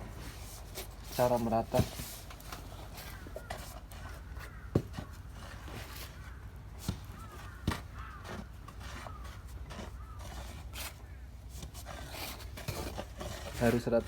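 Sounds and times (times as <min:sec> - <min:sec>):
dry powder stirred by hand: 0:00.0 - 0:14.0.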